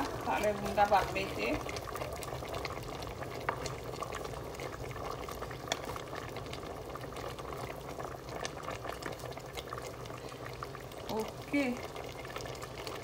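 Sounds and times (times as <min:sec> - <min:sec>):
broth bubbling in a pot: 0:00.0 - 0:13.0.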